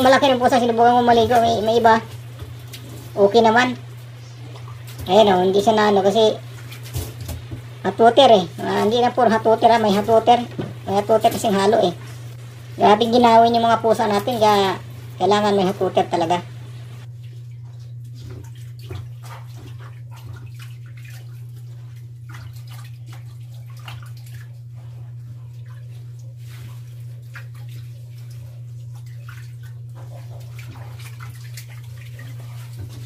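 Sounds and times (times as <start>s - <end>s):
water dripping: 0.0s - 12.9s, 13.6s - 33.0s
water splashing in a metal bowl: 0.0s - 16.4s, 17.2s - 33.0s
steady low hum: 0.0s - 33.0s.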